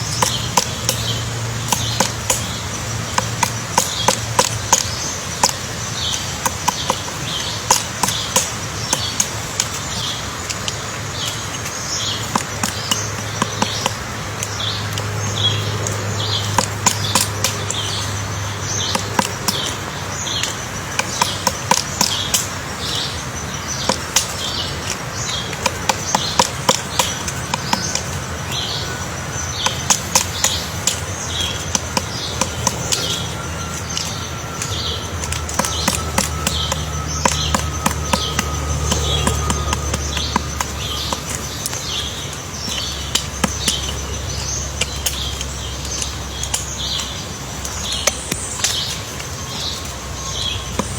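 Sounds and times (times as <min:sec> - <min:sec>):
bird chirping: 0:00.0 - 0:50.9
woodpecker tapping on wood: 0:00.0 - 0:50.9.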